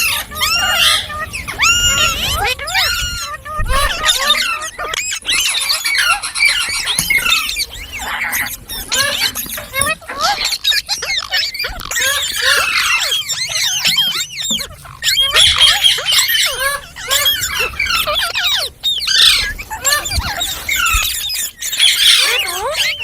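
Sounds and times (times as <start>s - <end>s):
parrots chattering and squawking: 0.0s - 23.0s.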